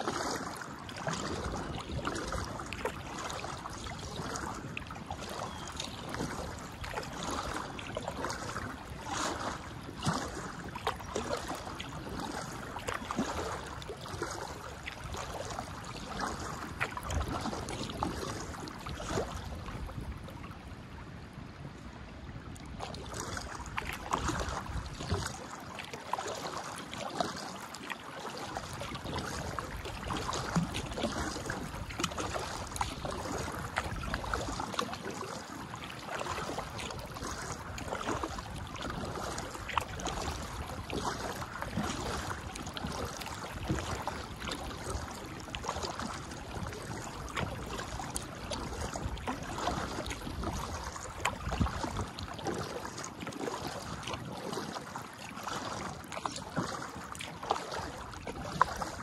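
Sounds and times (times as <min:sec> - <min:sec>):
paddle strokes in water: 0:00.0 - 0:59.0.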